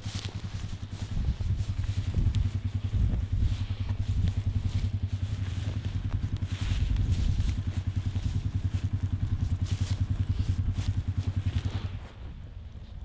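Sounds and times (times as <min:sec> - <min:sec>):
footsteps through grass: 0:00.0 - 0:12.4
vehicle engine idling: 0:00.0 - 0:13.0.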